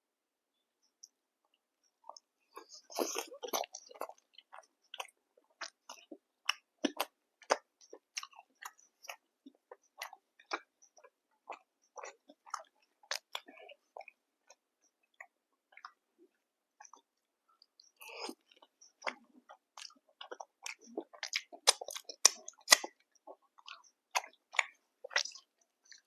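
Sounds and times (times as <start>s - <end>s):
person chewing with wet mouth clicks: 2.0s - 16.0s, 16.8s - 26.0s.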